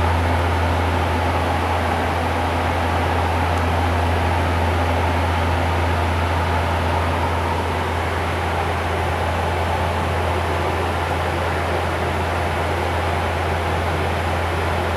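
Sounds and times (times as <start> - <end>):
deep turboprop hum: 0.0 - 14.9.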